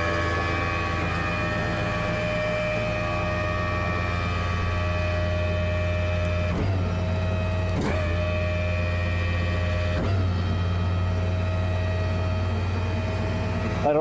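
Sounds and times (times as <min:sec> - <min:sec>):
winch motor whine: 0:00.0 - 0:14.0.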